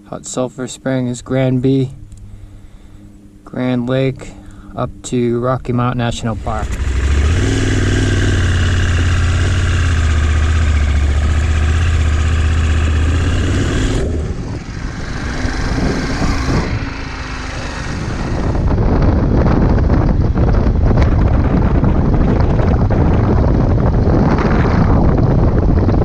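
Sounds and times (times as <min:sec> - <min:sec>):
motorcycle engine drone: 0:00.0 - 0:26.0
road and wind noise: 0:00.0 - 0:26.0.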